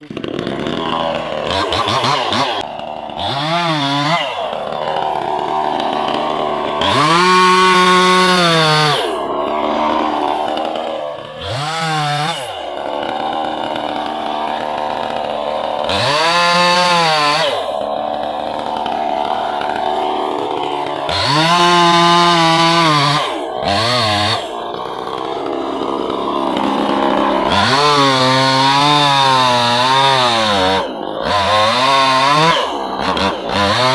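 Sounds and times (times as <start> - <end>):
chainsaw revving and cutting wood: 0.0 - 33.9.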